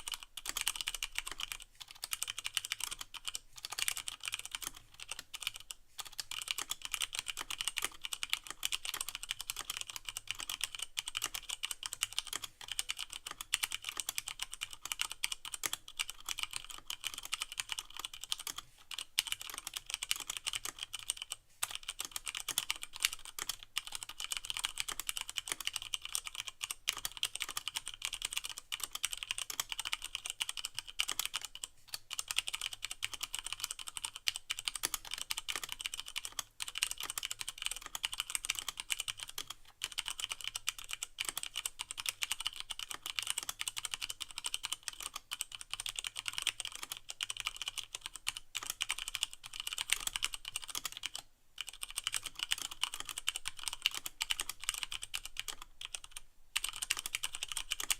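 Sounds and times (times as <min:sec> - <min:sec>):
mechanical keyboard typing: 0:00.0 - 0:57.9.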